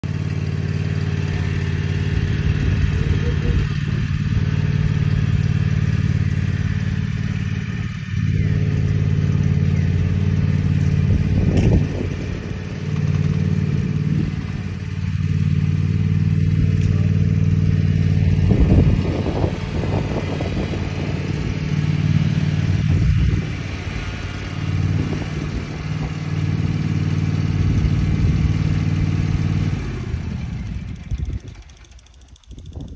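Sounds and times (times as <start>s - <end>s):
ride-on lawn mower engine: 0.0s - 32.9s.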